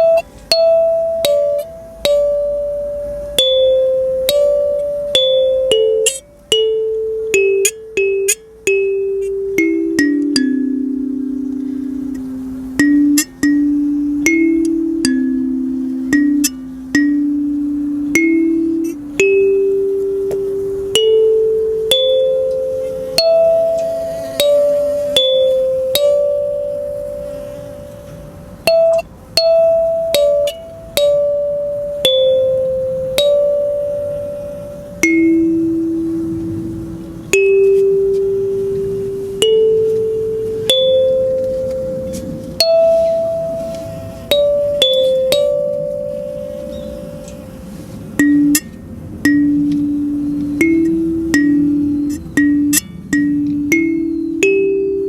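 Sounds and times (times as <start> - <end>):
kalimba melody: 0.0 - 55.0.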